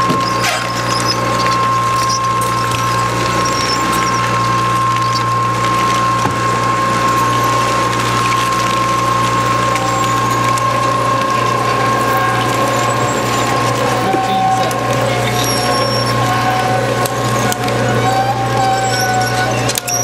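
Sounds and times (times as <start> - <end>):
rubber grinding in shredder: 0.0 - 20.0
shredder drive whine and hum: 0.0 - 20.0.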